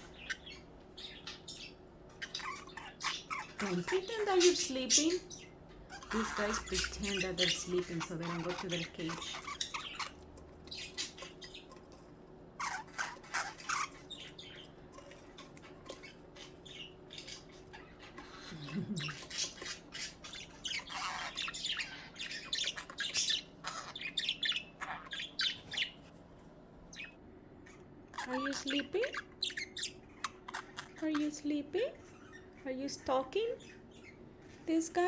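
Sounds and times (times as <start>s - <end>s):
budgies chirping and squawking: 0.0s - 26.2s, 26.8s - 35.0s.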